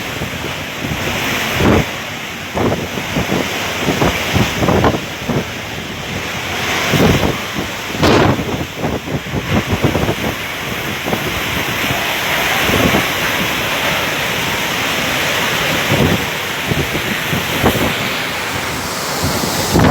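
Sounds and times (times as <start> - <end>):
hurricane wind and rain roaring: 0.0 - 19.9
wind gusts thudding on microphone: 0.0 - 19.9.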